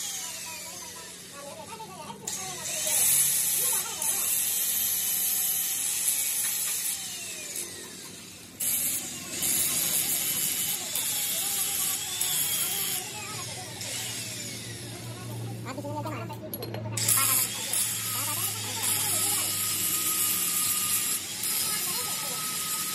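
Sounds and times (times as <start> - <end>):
angle grinder grinding steel: 0.0 - 16.2, 17.0 - 22.9.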